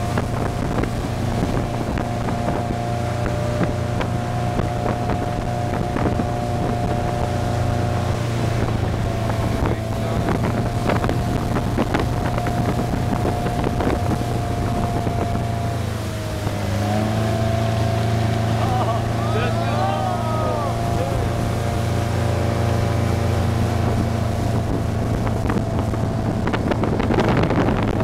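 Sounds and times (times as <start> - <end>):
motorboat engine running: 0.0 - 28.0
water splashing: 0.0 - 28.0
wind on microphone: 0.0 - 28.0.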